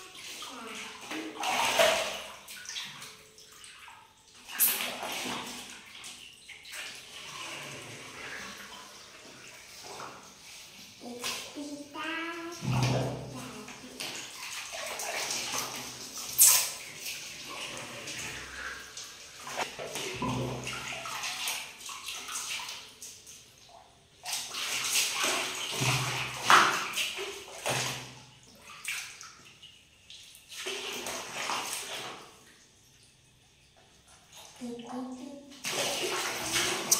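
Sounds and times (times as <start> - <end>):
bath water splashing: 0.0 - 32.8, 34.0 - 36.9.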